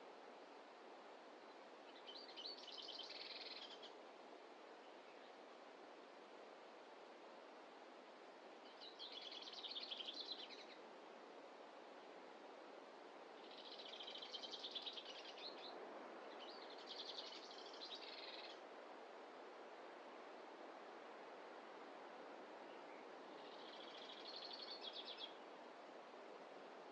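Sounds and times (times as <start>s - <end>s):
faint background hiss: 0.0s - 26.9s.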